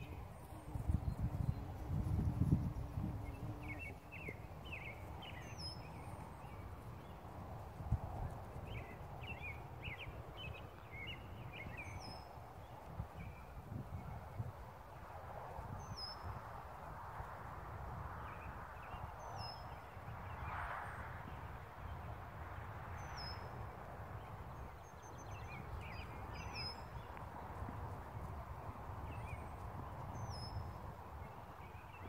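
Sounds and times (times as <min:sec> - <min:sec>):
low outdoor noise: 0:00.0 - 0:32.0.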